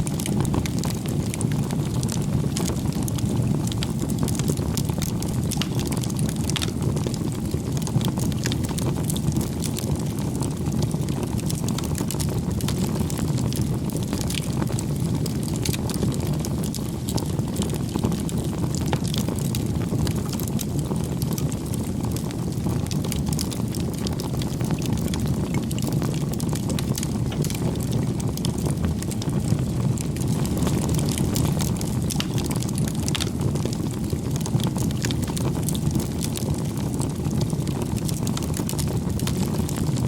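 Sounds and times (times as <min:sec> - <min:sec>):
burning wood crackling and popping: 0:00.0 - 0:40.0
low rush of flame: 0:00.0 - 0:40.0.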